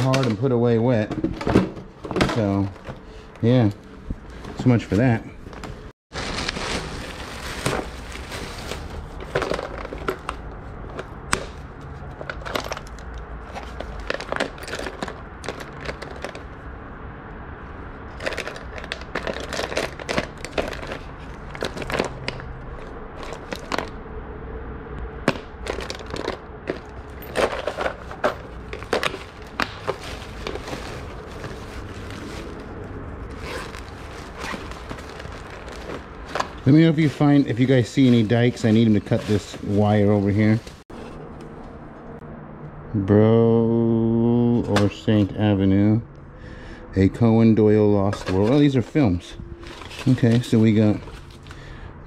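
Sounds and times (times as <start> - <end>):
objects rummaged through: 0.0 - 16.6, 18.1 - 24.0, 25.3 - 41.6, 48.0 - 51.8.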